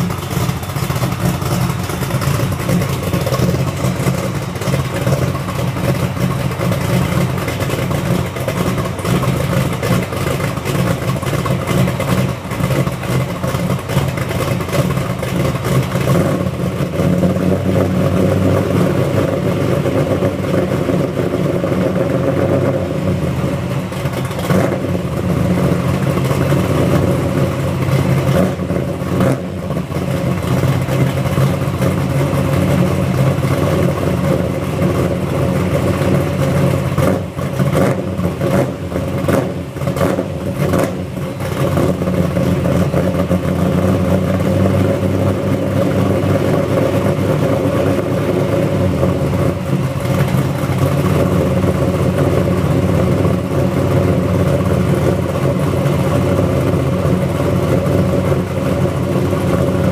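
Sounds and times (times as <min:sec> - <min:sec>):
engine idling through exhaust: 0:00.0 - 0:59.9.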